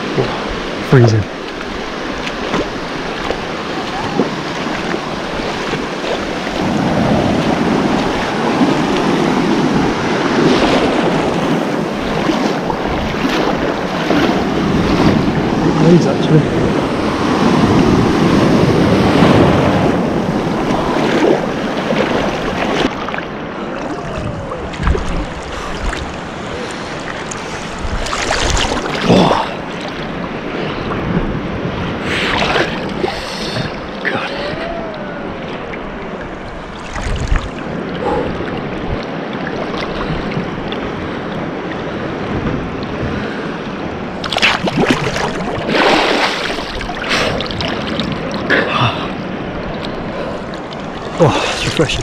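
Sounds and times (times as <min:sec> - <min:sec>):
surf breaking in shallow water: 0:00.0 - 0:52.0
water splashes: 0:00.0 - 0:52.0.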